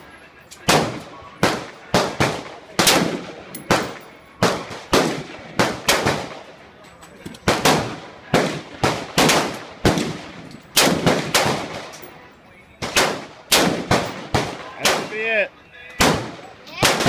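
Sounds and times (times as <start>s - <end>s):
rifle gunshots with echo: 0.7s - 6.5s, 7.4s - 12.0s, 12.8s - 15.4s, 16.0s - 17.0s.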